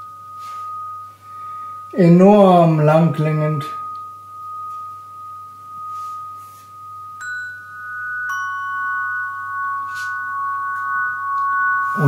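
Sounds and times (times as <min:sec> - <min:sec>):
crystal rods ringing: 0:00.0 - 0:12.0.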